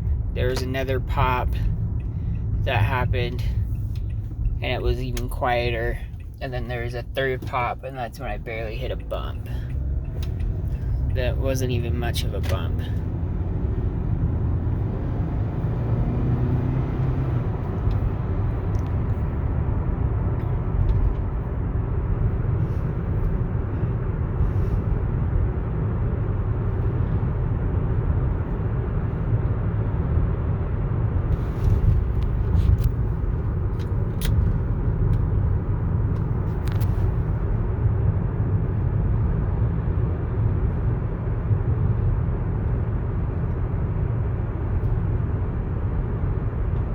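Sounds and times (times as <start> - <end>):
car cabin road rumble: 0.0 - 46.9.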